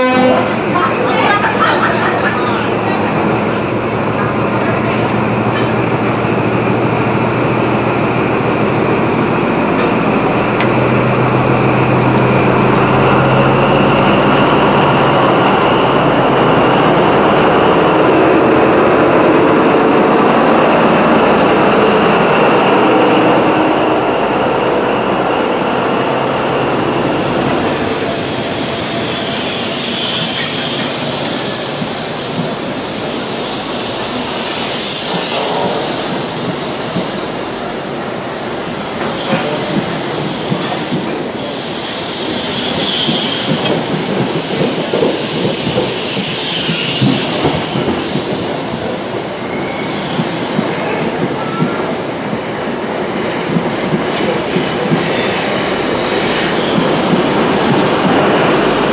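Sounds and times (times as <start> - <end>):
diesel train engine passing: 0.0 - 58.9
train coaches rolling: 0.0 - 58.9.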